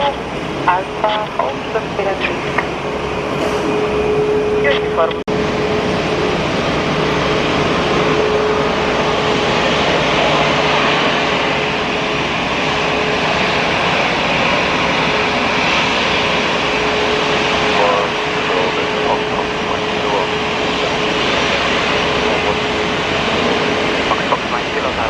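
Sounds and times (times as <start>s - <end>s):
jet engines whining: 0.0s - 25.0s.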